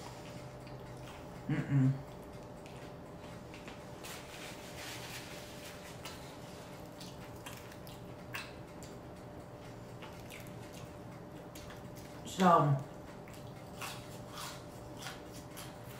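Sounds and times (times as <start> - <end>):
person chewing food: 0.0 - 15.9.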